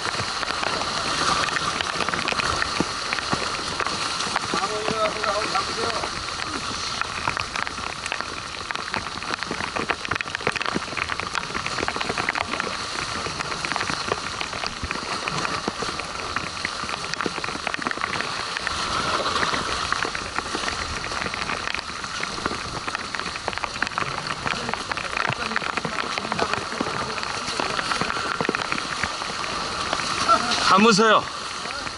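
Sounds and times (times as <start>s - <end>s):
rain pattering: 0.0s - 31.9s.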